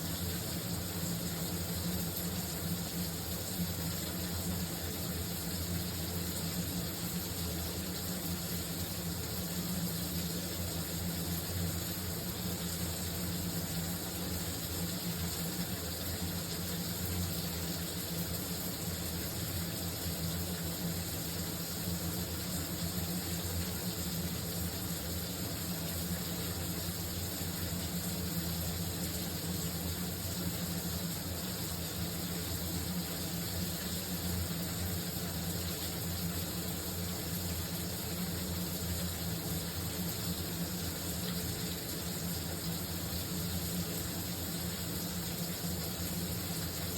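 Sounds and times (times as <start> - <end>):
shower water running: 0.0 - 46.9.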